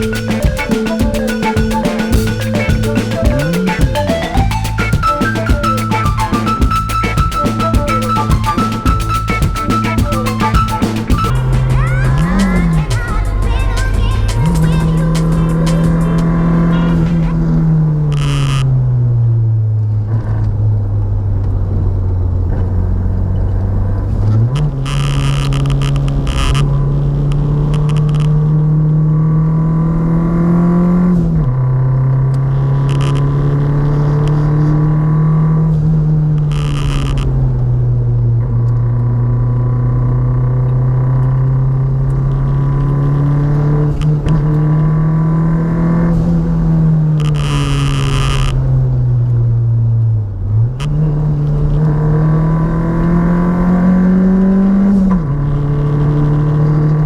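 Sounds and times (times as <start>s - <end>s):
vehicle engine revving with gear changes: 11.1s - 57.0s.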